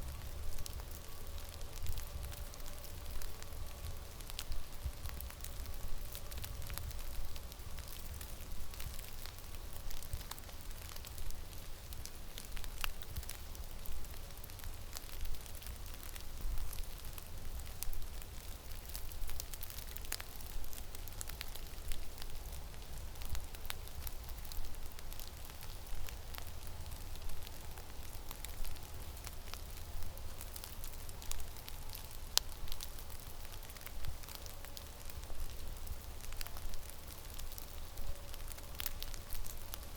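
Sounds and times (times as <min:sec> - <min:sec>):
sharp ticks and crackles: 0:00.0 - 0:39.9.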